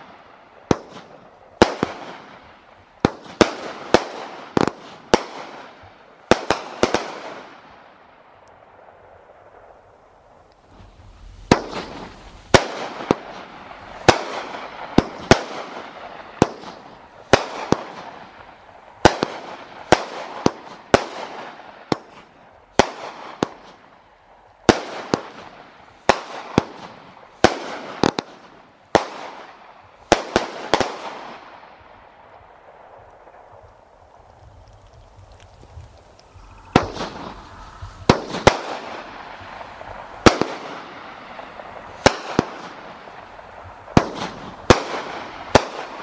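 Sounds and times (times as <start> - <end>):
fireworks bangs: 0.0 - 7.9, 9.3 - 23.9, 24.6 - 46.0.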